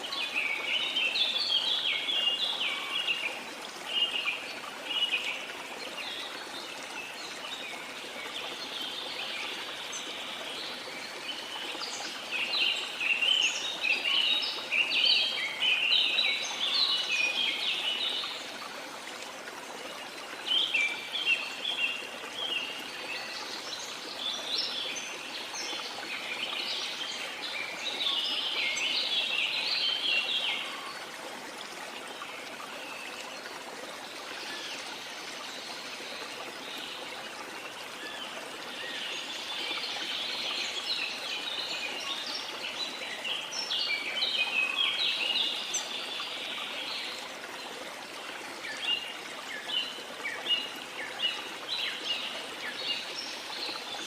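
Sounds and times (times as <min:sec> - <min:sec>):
forest birds chirping: 0:00.0 - 0:18.8, 0:19.8 - 0:54.0
river flowing: 0:00.0 - 0:54.0.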